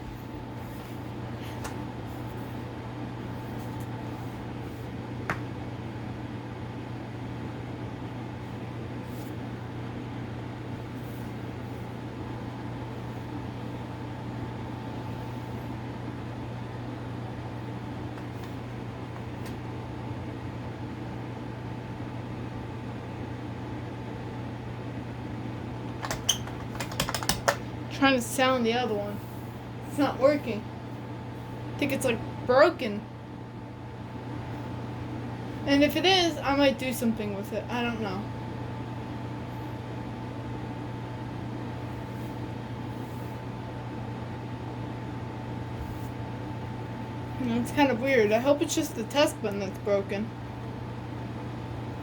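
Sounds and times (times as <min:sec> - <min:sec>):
low hum and hiss: 0:00.0 - 0:52.0.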